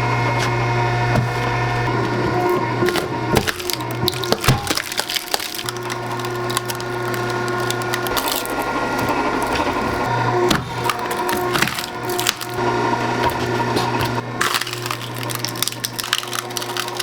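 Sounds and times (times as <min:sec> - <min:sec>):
low machine hum: 0:00.0 - 0:17.0
burning firewood crackling: 0:00.4 - 0:17.0.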